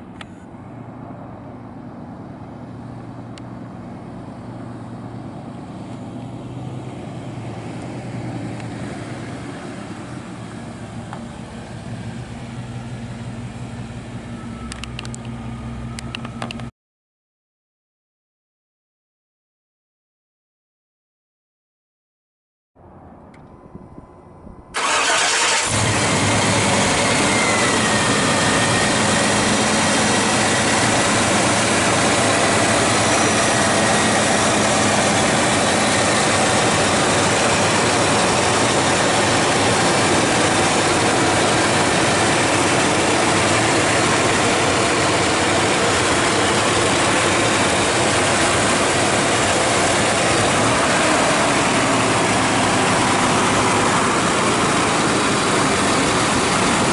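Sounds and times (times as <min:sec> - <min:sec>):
car engine starting and idling: 0:00.0 - 0:16.7, 0:23.2 - 0:56.9.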